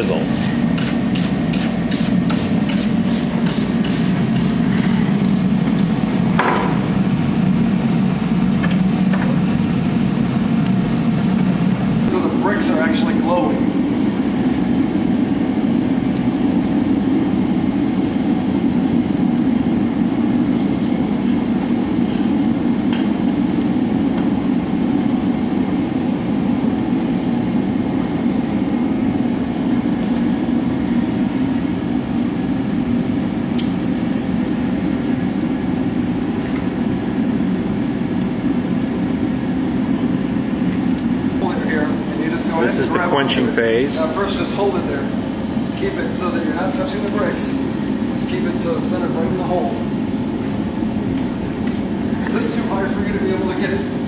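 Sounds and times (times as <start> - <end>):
gas burner rushing: 0.0 - 54.0.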